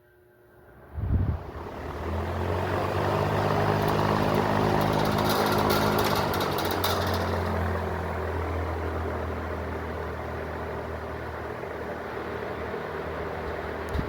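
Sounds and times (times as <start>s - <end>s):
box fan running: 0.0s - 14.0s.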